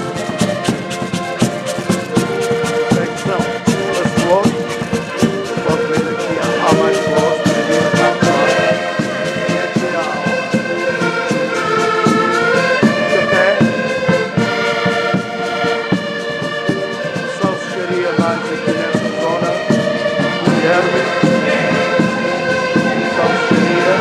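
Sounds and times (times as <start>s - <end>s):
brass band playing: 0.0s - 24.0s
drum beat: 0.0s - 24.0s.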